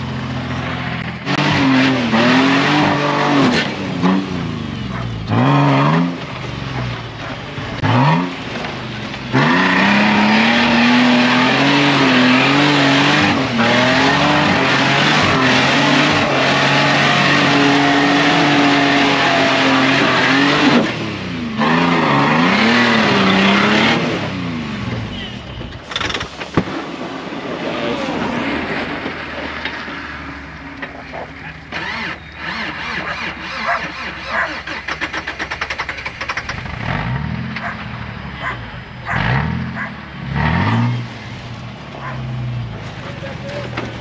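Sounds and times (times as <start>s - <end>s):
engine revving under load: 0.0s - 25.2s, 25.9s - 44.0s.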